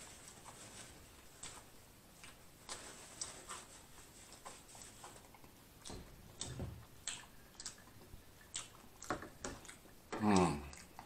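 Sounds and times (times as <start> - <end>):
chewing fried food: 0.0 - 11.0.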